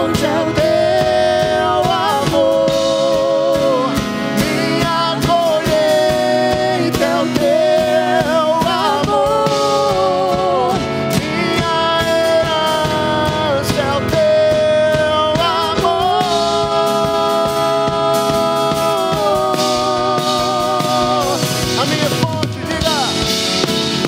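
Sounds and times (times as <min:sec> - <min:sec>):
woman singing: 0:00.0 - 0:21.8
worship band playing: 0:00.0 - 0:24.0.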